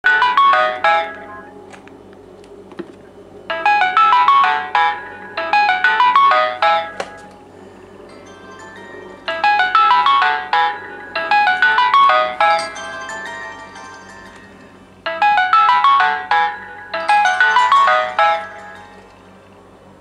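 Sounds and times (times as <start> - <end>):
melodic alarm tone: 0.0 - 1.7, 3.5 - 19.4.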